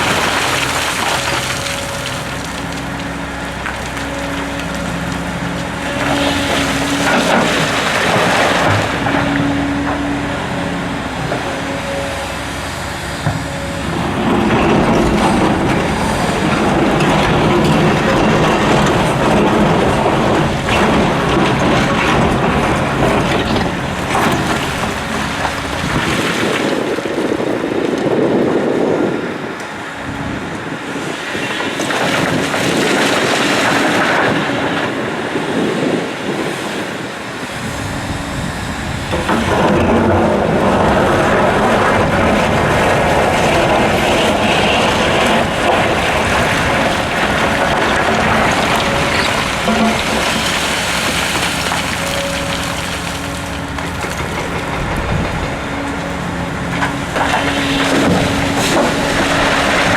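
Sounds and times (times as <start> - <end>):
excavator rumbling: 0.0 - 59.9.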